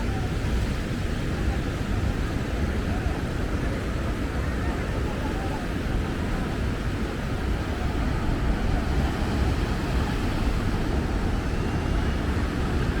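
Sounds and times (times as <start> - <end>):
beach surf: 0.0 - 13.0.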